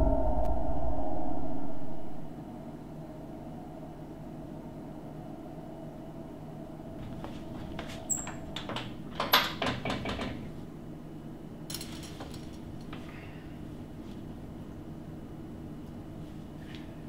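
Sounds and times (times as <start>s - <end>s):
steady low hum: 0.0s - 9.2s, 10.4s - 17.0s.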